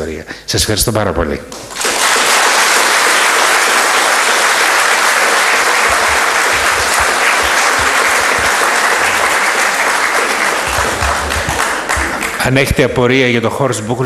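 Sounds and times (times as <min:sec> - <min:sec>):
audience applauding: 0:01.5 - 0:12.9.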